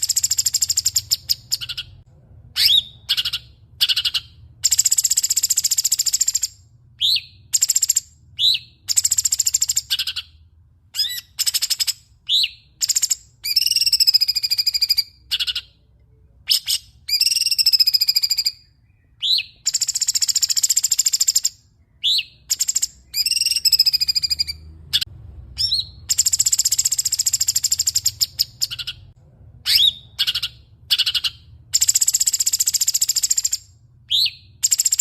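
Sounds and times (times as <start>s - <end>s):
songbird singing with trills: 0.0s - 10.4s, 11.0s - 15.9s, 16.5s - 35.0s.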